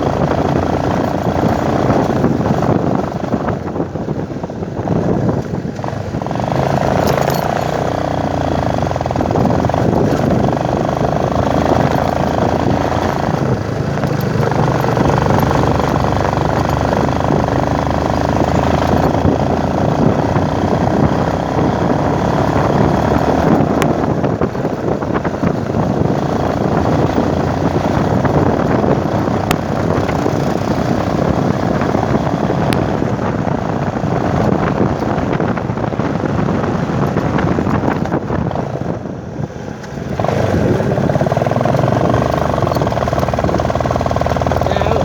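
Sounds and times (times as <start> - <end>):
motorcycle engine and rushing: 0.0 - 45.0.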